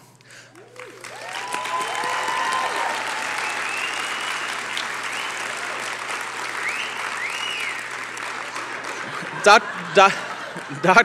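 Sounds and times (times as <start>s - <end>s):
audience applauding: 0.3s - 11.0s.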